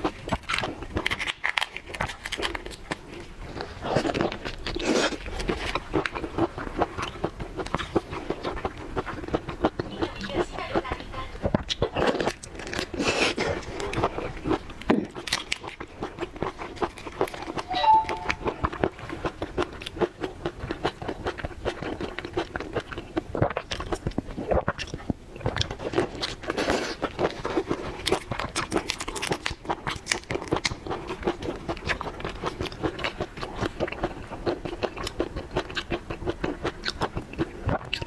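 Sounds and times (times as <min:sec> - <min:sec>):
person chewing seafood: 0:00.0 - 0:10.1, 0:11.5 - 0:17.4, 0:19.6 - 0:38.0.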